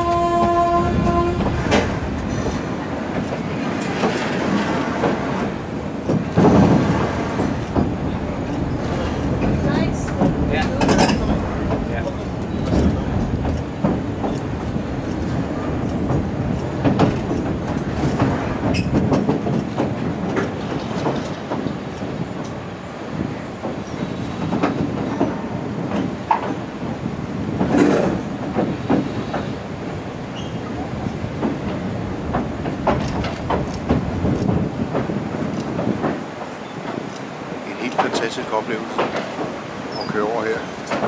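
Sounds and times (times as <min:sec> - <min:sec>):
train wheels clattering on rails: 0:00.0 - 0:41.0.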